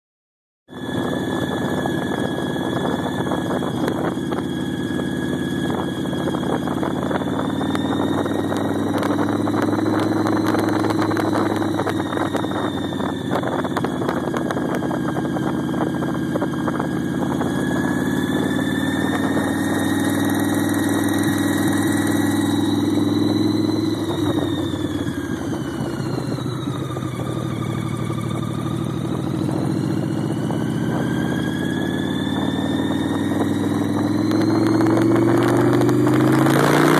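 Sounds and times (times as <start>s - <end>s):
high whine: 0.7s - 36.9s
motorcycle engine running: 0.7s - 36.9s.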